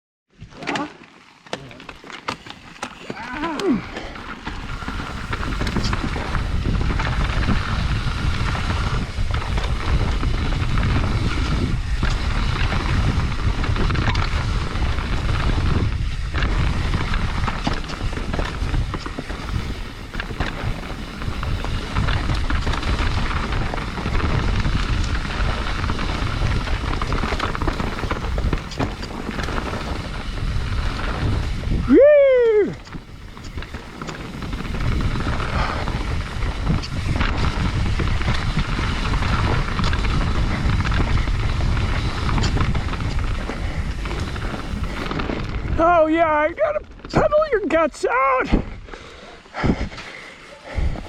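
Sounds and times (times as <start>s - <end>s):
bike knocks and rattles: 0.4s - 47.2s
bike rolling over dirt trail: 0.4s - 51.0s
wind buffeting microphone: 3.2s - 51.0s.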